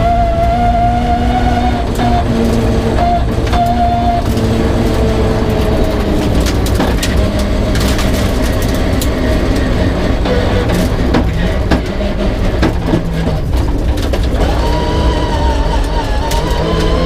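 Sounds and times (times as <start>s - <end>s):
rally car engine running hard: 0.0s - 17.0s
road rumble: 0.0s - 17.0s
knocks and clatter from underside: 2.0s - 17.0s.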